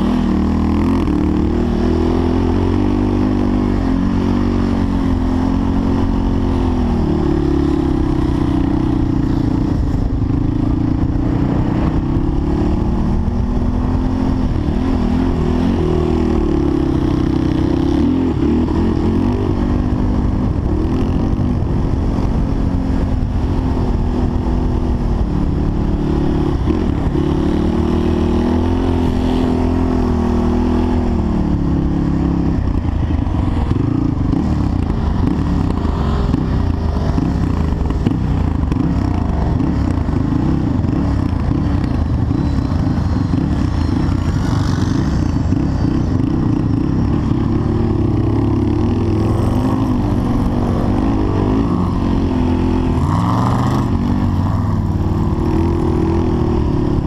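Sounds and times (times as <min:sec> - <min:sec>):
off-road engine revving: 0:00.0 - 0:32.6, 0:33.3 - 0:57.0
heavy rumble: 0:00.0 - 0:57.0
wind noise on camera: 0:00.0 - 0:57.0.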